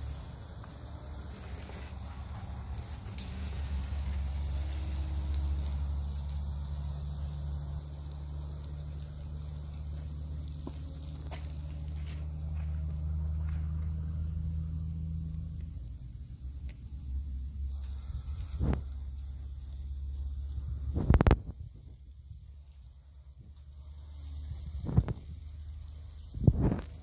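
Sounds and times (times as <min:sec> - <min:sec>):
meat sizzling on a grill: 0:00.0 - 0:27.0
small crackles: 0:00.0 - 0:27.0
steady low rumble: 0:00.0 - 0:27.0.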